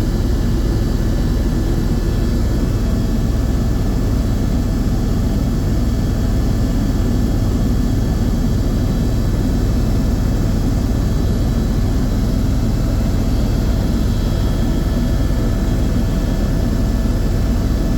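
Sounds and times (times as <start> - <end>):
helicopter engine and rotor noise: 0.0 - 17.9.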